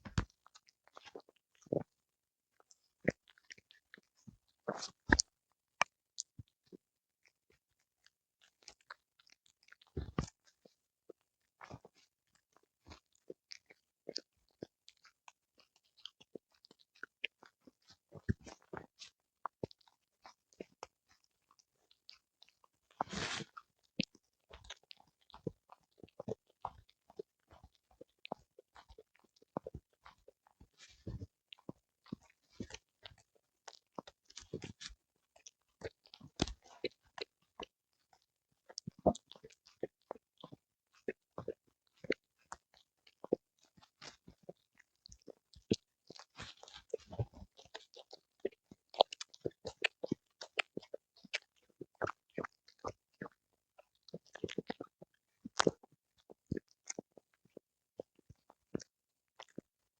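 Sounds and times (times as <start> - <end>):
dog chewing and crunching: 2.6 - 6.8, 8.0 - 59.7.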